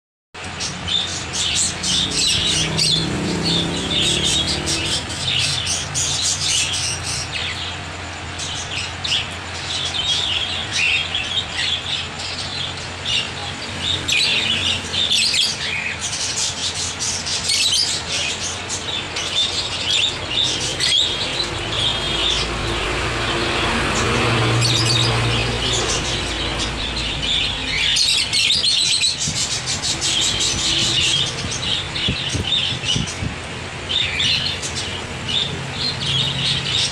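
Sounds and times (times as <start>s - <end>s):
caged birds chirping and squawking: 0.4s - 36.9s.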